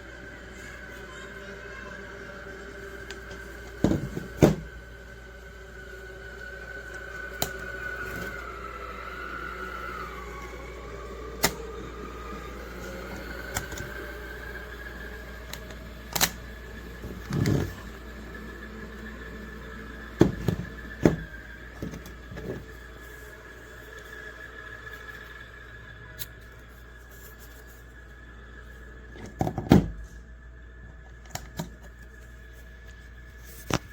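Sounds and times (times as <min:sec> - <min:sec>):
small motor whining: 0:00.0 - 0:33.8.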